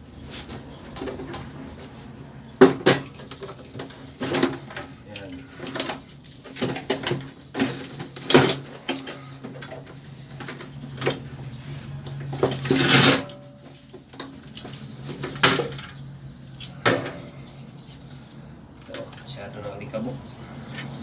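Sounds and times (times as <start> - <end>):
air conditioner parts clattering: 0.0 - 21.0.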